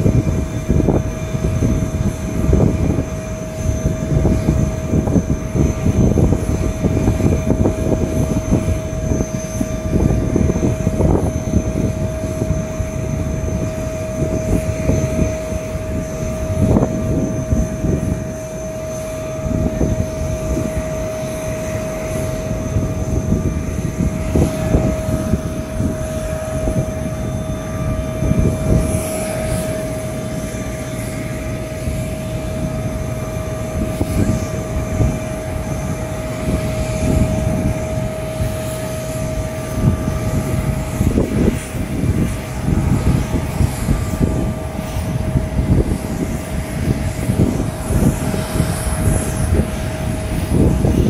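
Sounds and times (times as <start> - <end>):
jet airliner high whine: 0.0 - 51.0.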